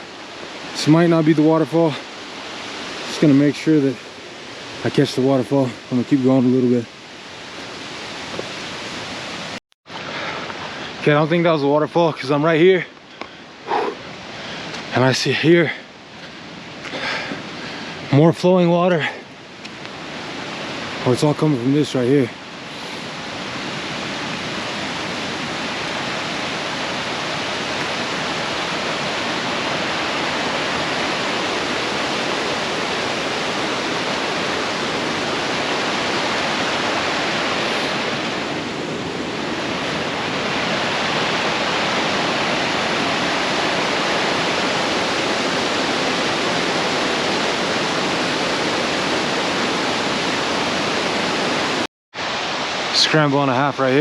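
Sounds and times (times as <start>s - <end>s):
mountain stream rushing over rocks: 0.0s - 54.0s.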